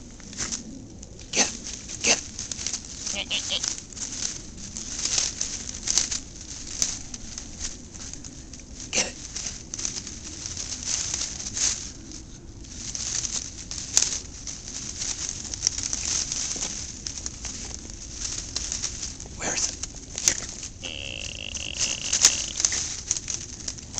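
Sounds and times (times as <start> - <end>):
dry leaves rustling and crackling: 0.0 - 23.9.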